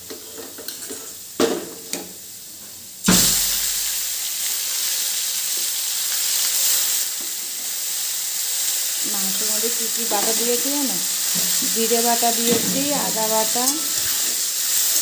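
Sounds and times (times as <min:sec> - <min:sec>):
meat sizzling in hot oil: 0:02.1 - 0:15.0.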